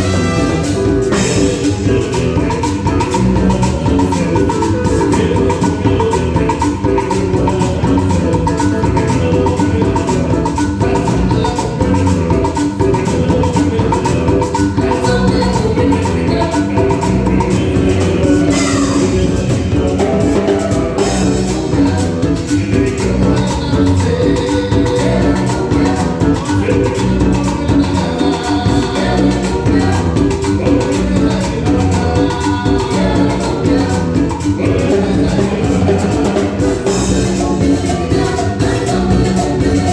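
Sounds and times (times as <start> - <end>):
dense percussion beat: 0.0 - 39.9
live band playing: 0.0 - 39.9.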